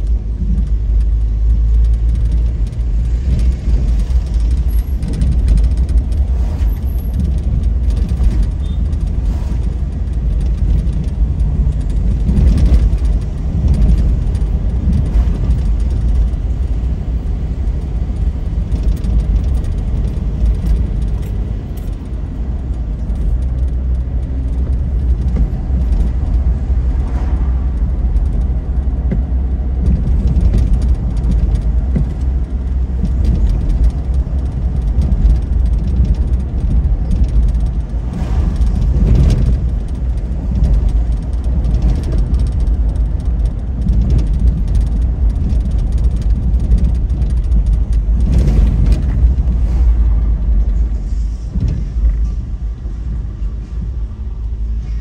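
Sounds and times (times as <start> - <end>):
car engine and tyres rumble: 0.0 - 55.0.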